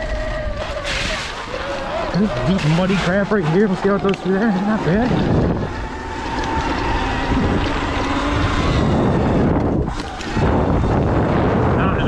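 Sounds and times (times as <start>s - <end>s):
electric motor whine: 0.0s - 12.0s
tyres and suspension rumble: 0.0s - 12.0s
wind rushing over microphone: 0.0s - 12.0s.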